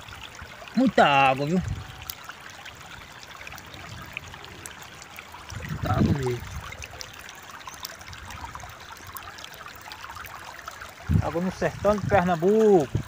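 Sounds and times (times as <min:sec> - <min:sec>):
water rushing over stones: 0:00.0 - 0:13.0.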